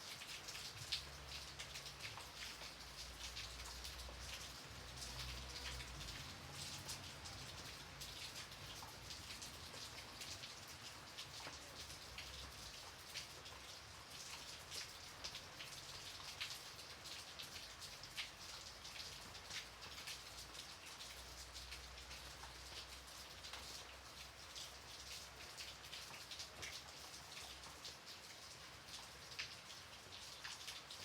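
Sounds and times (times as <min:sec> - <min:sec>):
light rain pattering: 0:00.0 - 0:31.0.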